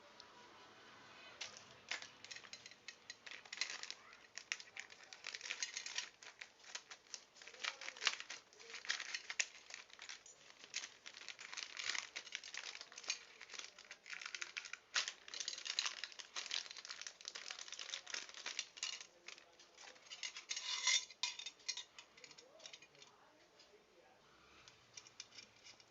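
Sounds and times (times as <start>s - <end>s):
packaging crinkling: 1.4s - 23.0s.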